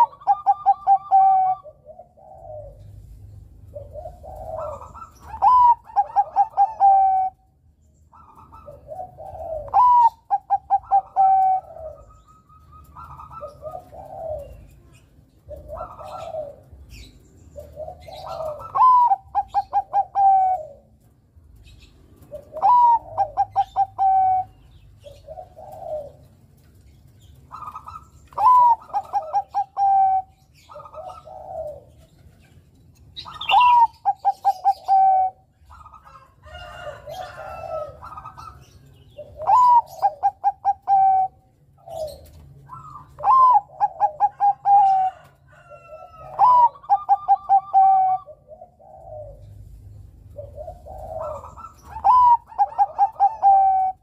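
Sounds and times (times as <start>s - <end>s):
dove cooing song: 0.0s - 54.0s.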